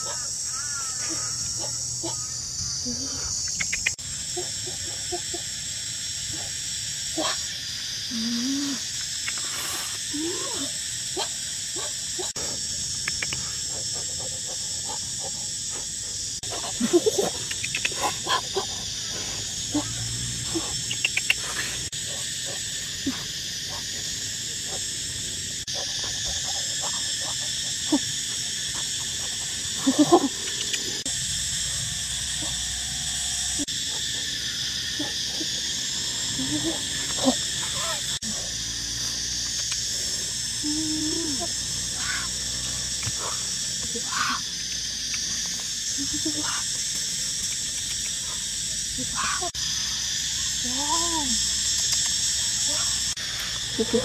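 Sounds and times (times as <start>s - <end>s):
sharp animal sounds and clicks: 0.0s - 5.4s, 8.8s - 25.0s, 25.6s - 32.6s, 36.5s - 54.0s
insect chorus: 0.0s - 54.0s.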